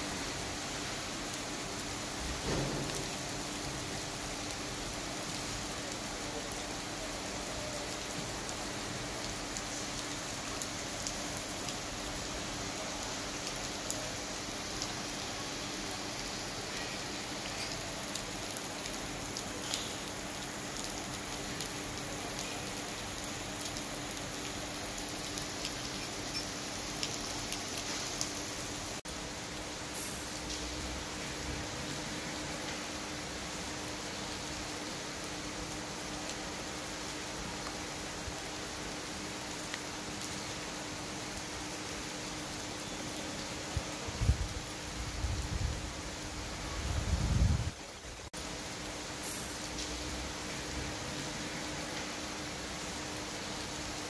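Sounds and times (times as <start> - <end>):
rain falling on asphalt: 0.0 - 54.0.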